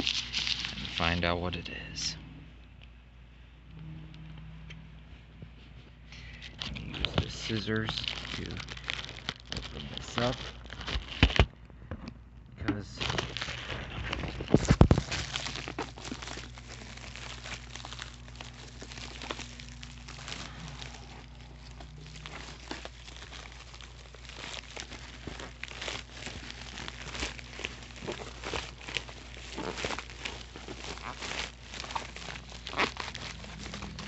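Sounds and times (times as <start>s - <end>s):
plastic packaging crinkling: 0.0s - 1.4s, 6.2s - 11.6s, 12.7s - 34.0s.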